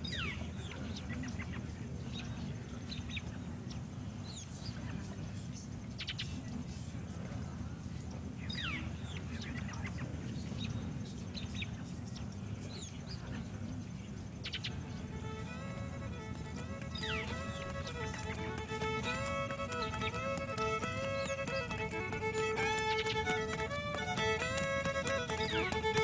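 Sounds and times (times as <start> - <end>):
birds chirping: 0.0 - 26.0
low background rumble: 0.0 - 26.0.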